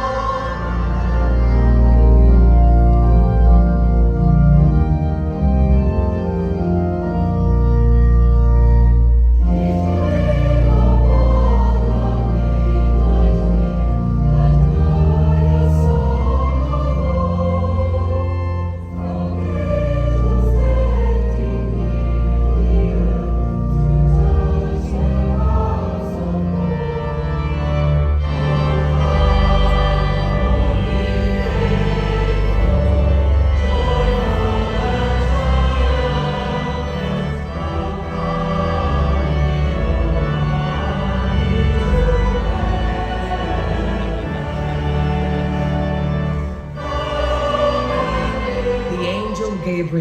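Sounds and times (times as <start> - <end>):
choir singing with orchestra: 0.0 - 50.0
organ playing held chords: 0.0 - 50.0.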